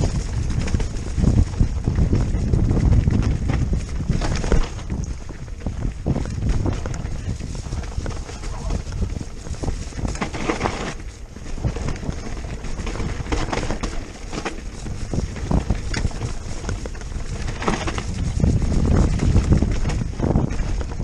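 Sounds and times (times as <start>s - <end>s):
bike rattles and knocks: 0.0s - 21.0s
tyres on dirt: 0.0s - 21.0s
wind buffeting microphone: 0.0s - 21.0s.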